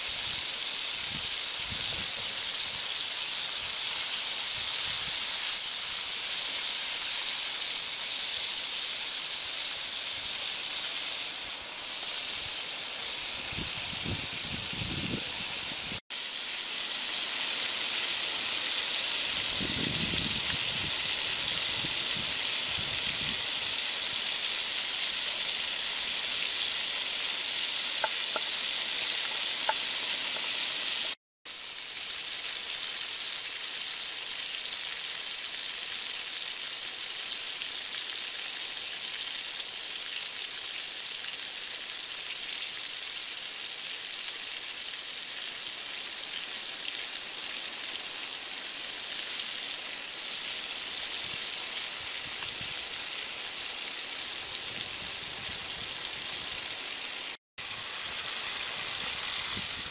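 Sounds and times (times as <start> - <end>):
shrimp sizzling in hot oil: 0.0 - 59.9.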